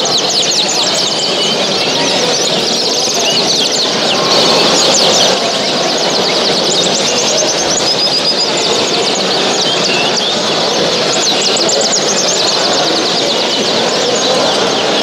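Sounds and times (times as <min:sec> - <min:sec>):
songbirds chirping and trilling: 0:00.0 - 0:15.0
steady background din: 0:00.0 - 0:15.0.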